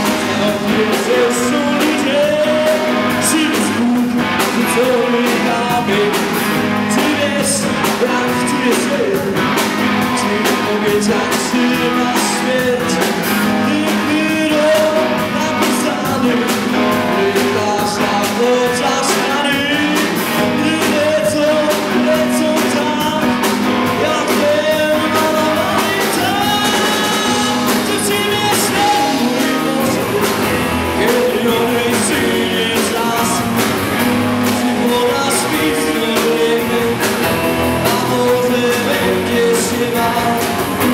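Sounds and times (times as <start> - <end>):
person singing: 0.0 - 40.9
rock song with guitars and drums: 0.0 - 40.9.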